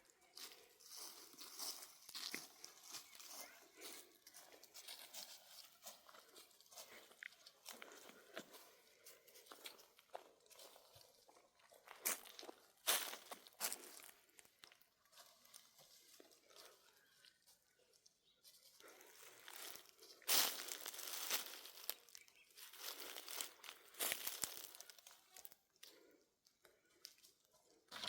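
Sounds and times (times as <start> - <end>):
crunching and crinkling: 0.0 - 17.4, 18.4 - 28.0.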